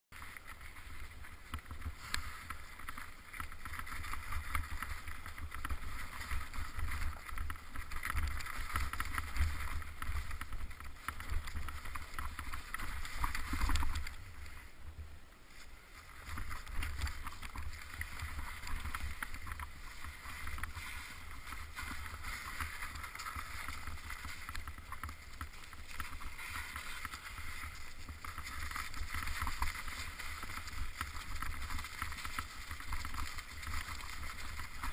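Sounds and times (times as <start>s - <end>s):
wind and vibration rumble: 0.1s - 34.9s
bicycle clicks and rattles: 0.2s - 14.2s, 16.2s - 34.9s.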